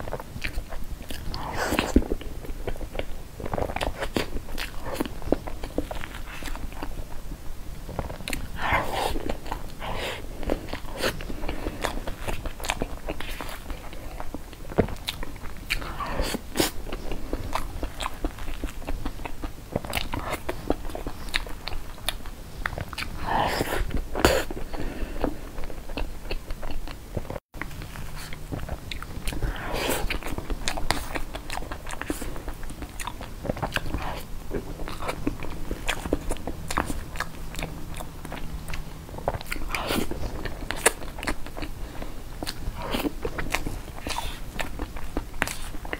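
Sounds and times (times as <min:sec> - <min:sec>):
wet chewing: 0:00.0 - 0:07.2, 0:07.9 - 0:45.9.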